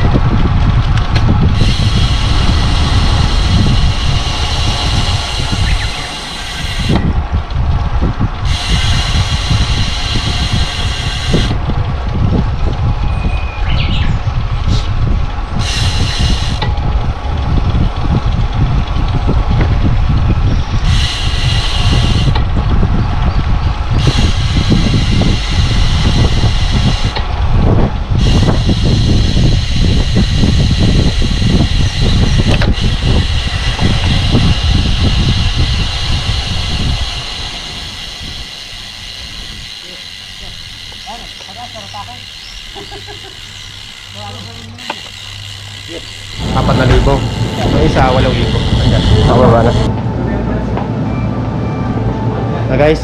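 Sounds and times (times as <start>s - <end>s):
wind buffeting microphone: 0.0s - 52.1s.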